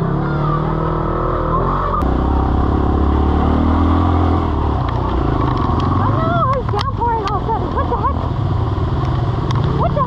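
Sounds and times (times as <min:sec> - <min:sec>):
dirt bike engines idling: 0:00.0 - 0:10.0
motorcycle engine climbing: 0:00.0 - 0:10.0.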